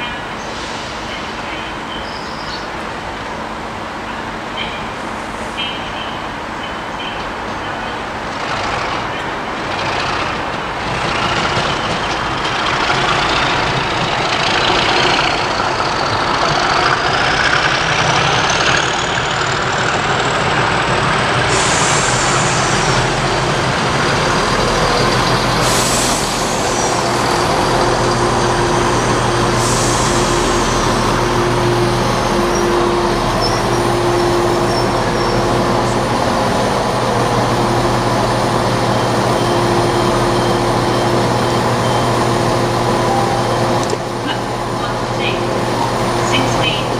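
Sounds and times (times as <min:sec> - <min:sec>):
diesel locomotive engine whine and drone: 0:00.0 - 0:46.9.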